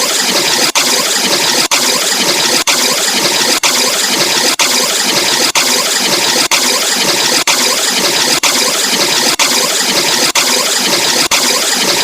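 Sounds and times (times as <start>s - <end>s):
distorted vocoder buzz: 0.0s - 12.0s.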